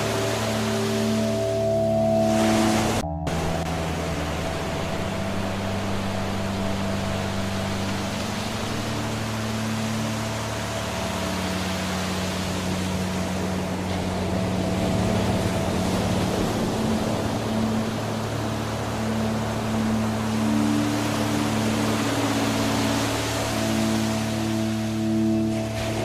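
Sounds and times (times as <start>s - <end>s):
ambient music drone: 0.0s - 26.0s
waterfall rushing: 0.0s - 26.0s.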